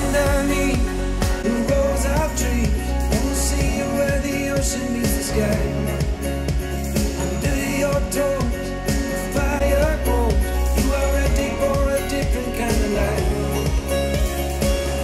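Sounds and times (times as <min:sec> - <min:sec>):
pop song through speakers: 0:00.0 - 0:15.0.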